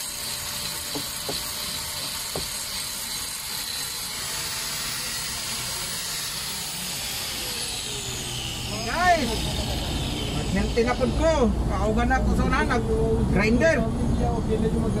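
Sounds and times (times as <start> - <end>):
steady machine hiss: 0.0 - 12.2.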